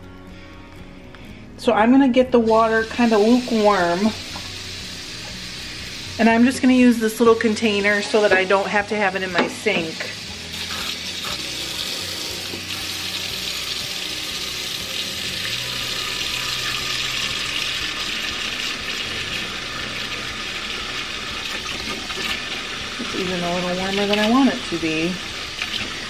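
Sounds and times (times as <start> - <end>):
faucet running into tub: 2.5 - 26.0.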